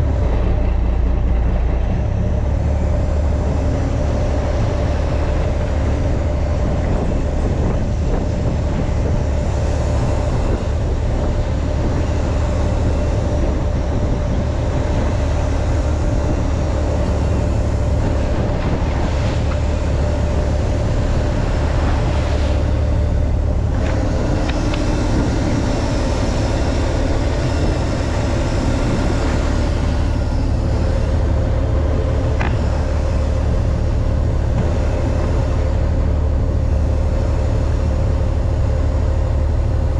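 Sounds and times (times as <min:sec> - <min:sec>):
boat engine droning: 0:00.0 - 0:39.9
water noise: 0:00.0 - 0:39.9
wind noise: 0:00.0 - 0:39.9.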